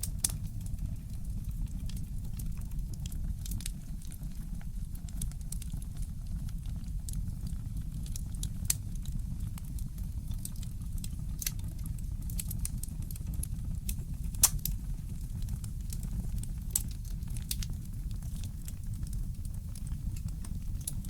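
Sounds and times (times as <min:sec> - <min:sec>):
fire pops: 0:00.0 - 0:21.0
wood fire crackling: 0:00.0 - 0:21.0.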